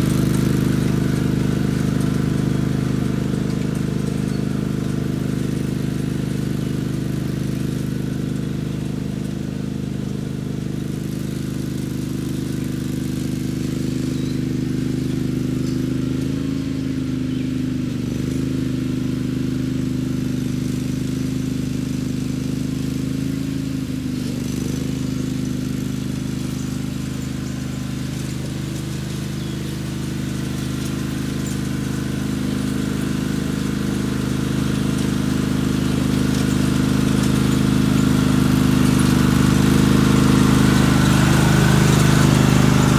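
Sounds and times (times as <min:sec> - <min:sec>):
tiller ripping up ground: 0:00.0 - 0:42.9
tractor engine running: 0:00.0 - 0:42.9.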